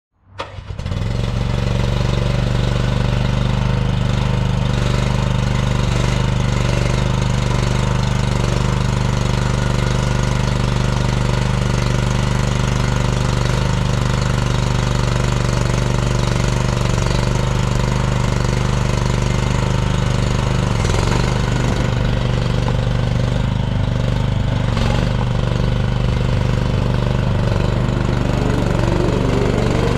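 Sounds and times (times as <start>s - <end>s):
mini skid steer engine running: 0.4s - 29.9s.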